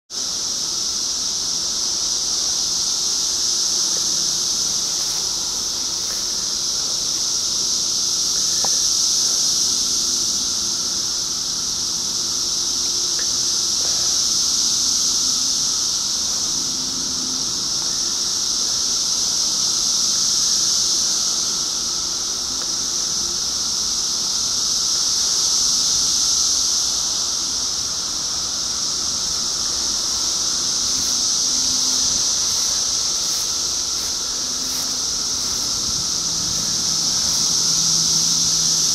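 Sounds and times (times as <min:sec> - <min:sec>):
cicadas buzzing: 0:00.1 - 0:38.9.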